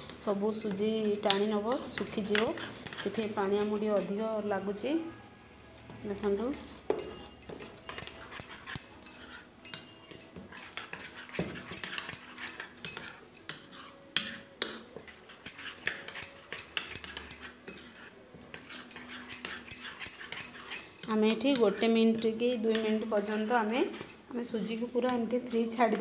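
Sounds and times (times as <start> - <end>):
spoon stirring batter in a bowl: 0.6 - 4.5, 6.0 - 24.4.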